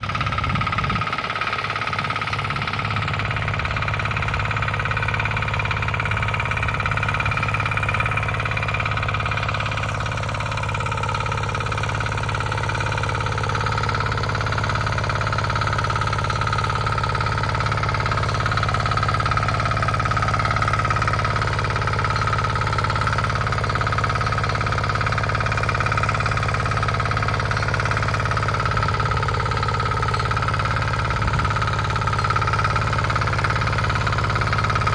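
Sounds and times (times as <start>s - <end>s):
power tiller engine running: 0.0s - 34.9s.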